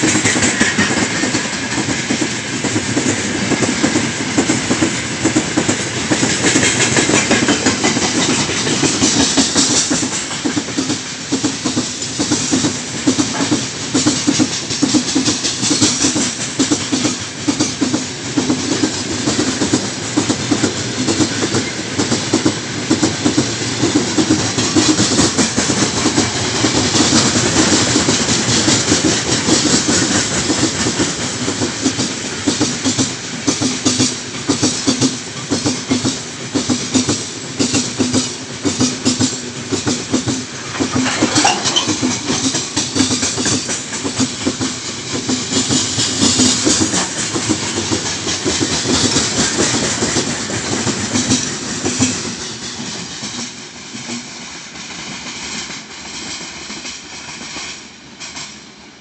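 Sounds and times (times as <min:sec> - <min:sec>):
freight train wheels clacking: 0:00.0 - 0:58.8.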